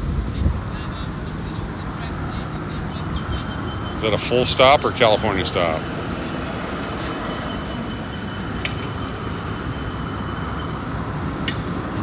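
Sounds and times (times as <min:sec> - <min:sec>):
distant jet engines idling: 0:01.9 - 0:12.0.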